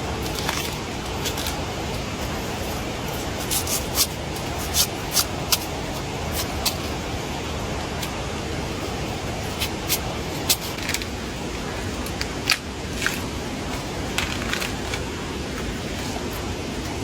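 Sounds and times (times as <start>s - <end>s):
rain hissing in forest: 0.0s - 17.0s.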